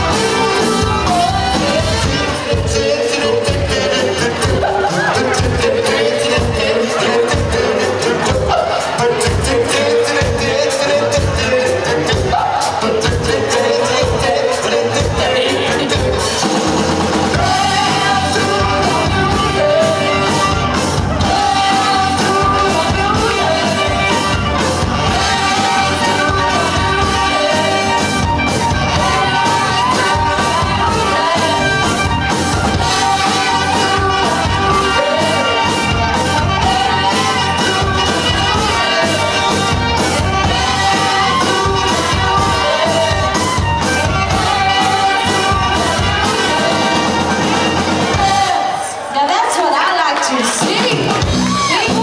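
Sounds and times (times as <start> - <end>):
bass: 0.0 - 49.1, 50.5 - 52.0
electric guitar: 0.0 - 49.4, 50.2 - 52.0
person singing: 0.0 - 49.4
drum kit beat: 0.0 - 52.0.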